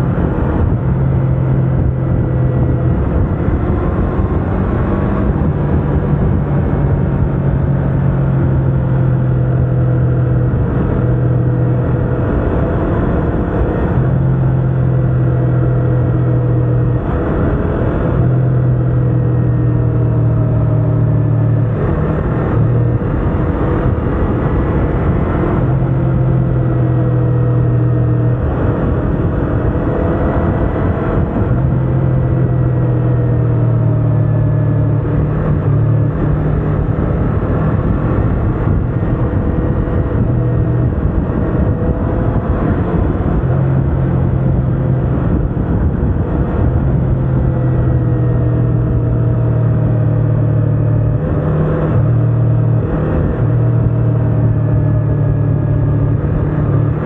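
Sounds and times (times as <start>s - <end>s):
loud low hum: 0.0s - 57.0s
motorcycle engine cruising: 0.0s - 57.0s
wind and road noise: 0.0s - 57.0s.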